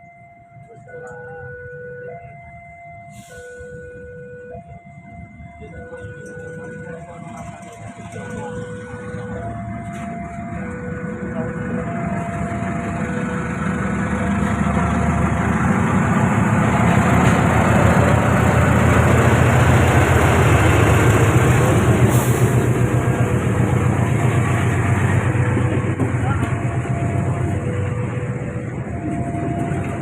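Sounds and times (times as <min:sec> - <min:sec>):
heavy engine and rail noise: 0:00.0 - 0:30.0
train passing: 0:00.0 - 0:30.0.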